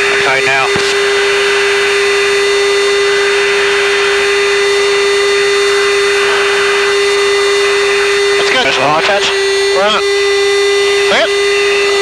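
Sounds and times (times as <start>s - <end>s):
constant hum: 0.0s - 12.0s
jet cockpit rushing noise: 0.0s - 12.0s.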